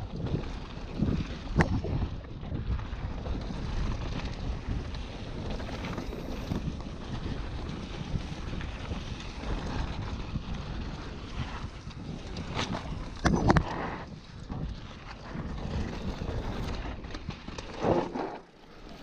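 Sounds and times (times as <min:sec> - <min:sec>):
bike clicks and rattles: 0:00.0 - 0:19.0
rumble of riding on dirt trail: 0:00.0 - 0:19.0
wind buffeting microphone: 0:00.0 - 0:19.0.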